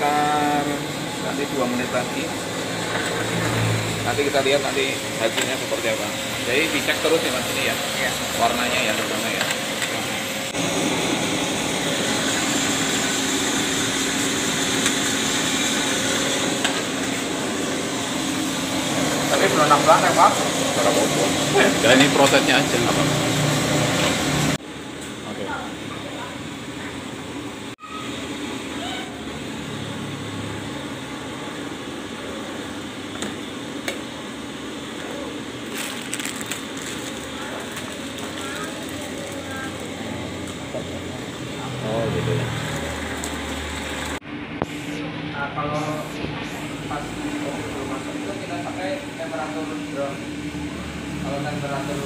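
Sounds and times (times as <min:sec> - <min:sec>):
coffee roaster blower whoosh: 0:00.0 - 0:52.0.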